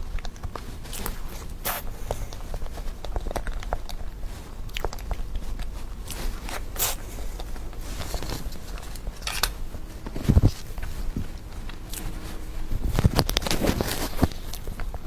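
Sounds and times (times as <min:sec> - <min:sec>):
chewing and biting food: 0:00.0 - 0:15.0.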